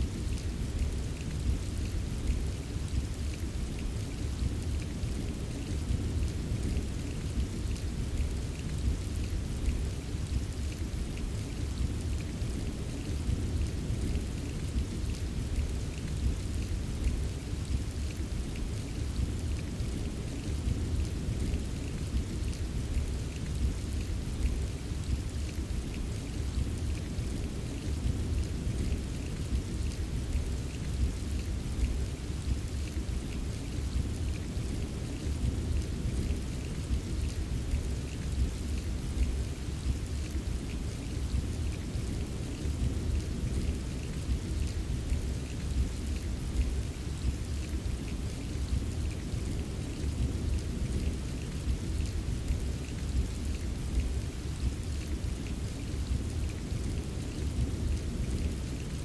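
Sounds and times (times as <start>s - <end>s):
heavy rain rumble: 0.0s - 59.0s.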